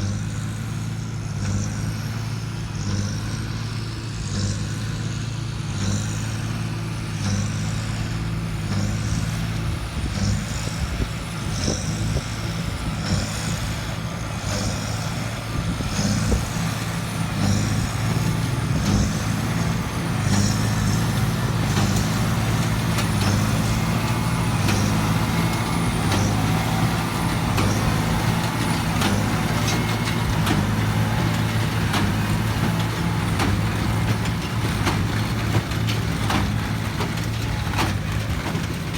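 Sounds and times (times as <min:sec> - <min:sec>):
tractor engine running: 0:00.0 - 0:38.9
hay baler metallic clatter: 0:03.3 - 0:38.9.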